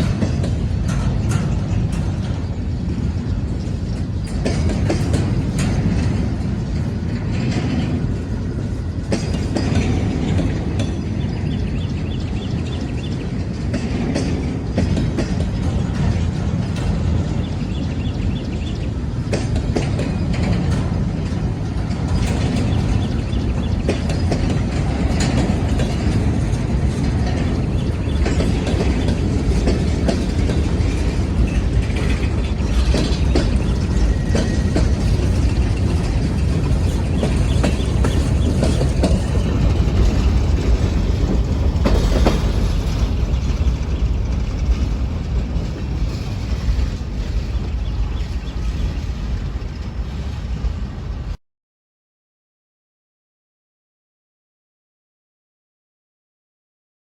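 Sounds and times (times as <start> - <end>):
wheels clicking over rail joints: 0.0 - 50.8
freight train rumbling: 0.0 - 51.4.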